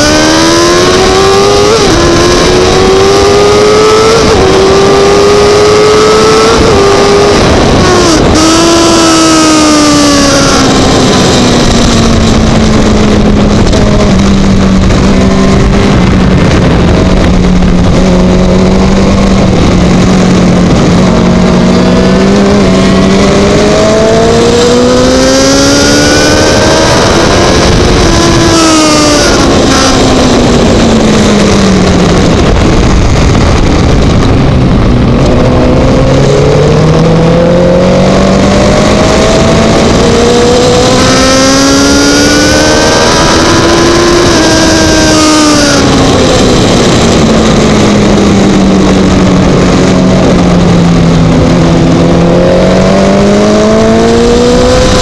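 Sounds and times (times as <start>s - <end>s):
racing motorcycle engine revving: 0.0s - 55.0s
wind rushing: 0.0s - 55.0s.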